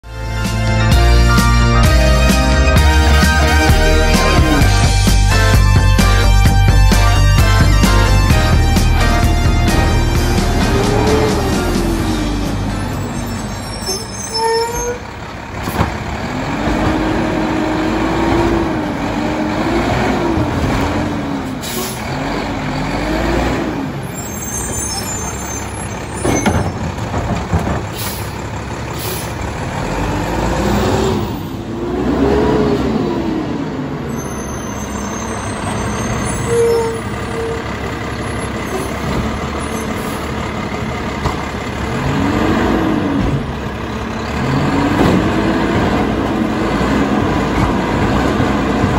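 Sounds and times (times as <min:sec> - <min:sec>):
garbage truck diesel engine revving: 0:00.2 - 0:48.9
hydraulic arm and packer working: 0:08.8 - 0:48.9.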